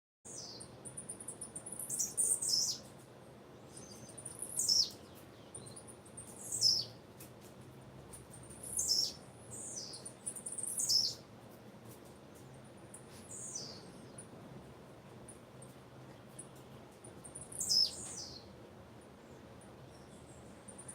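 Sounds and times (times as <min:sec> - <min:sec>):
bird chirping: 0:00.3 - 0:03.0, 0:03.6 - 0:07.0, 0:08.1 - 0:11.2, 0:12.3 - 0:14.4, 0:15.3 - 0:20.9.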